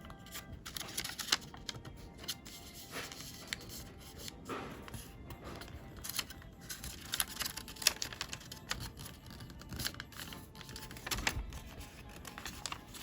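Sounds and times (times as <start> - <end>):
paper crackling while folded: 0.1 - 13.0.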